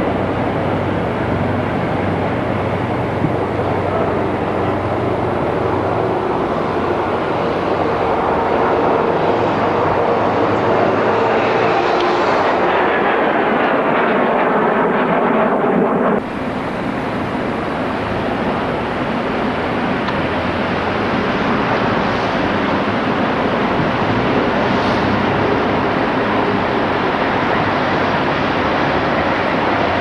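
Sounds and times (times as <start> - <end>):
locomotive engine and running noise: 0.0 - 13.3, 16.2 - 30.0
loud rushing noise: 0.0 - 30.0.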